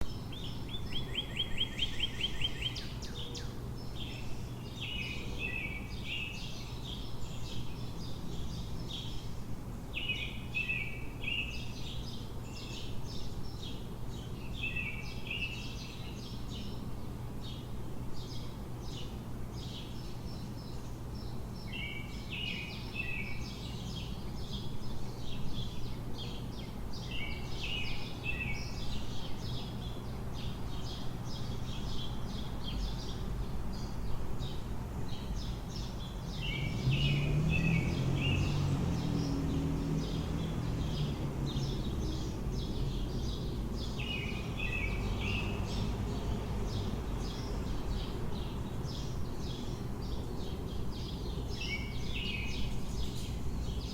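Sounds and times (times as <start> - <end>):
low city hum: 0.0 - 53.9
songbirds singing: 0.0 - 53.9.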